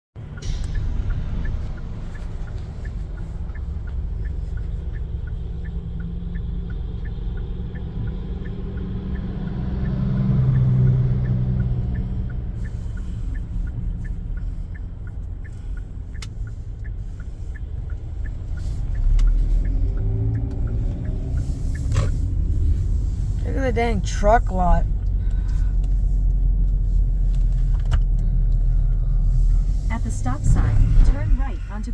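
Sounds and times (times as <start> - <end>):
engine and road rumble: 0.0 - 31.9
light regular ticking: 0.2 - 31.9.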